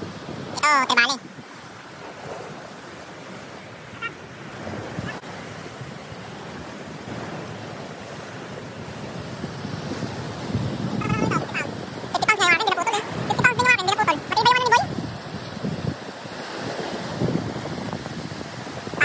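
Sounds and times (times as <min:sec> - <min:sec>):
surf breaking on rocks: 0:00.0 - 0:19.0
wind on microphone: 0:00.0 - 0:19.0.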